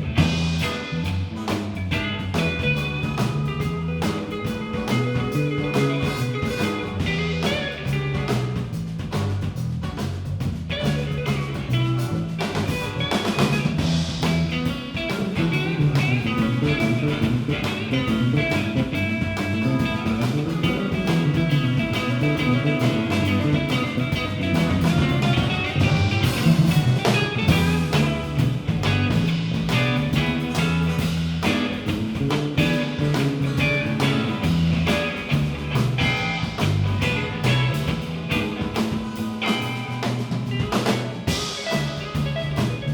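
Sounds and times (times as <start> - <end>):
electric guitar playing: 0.0 - 42.9
steady drum beat: 0.0 - 42.9.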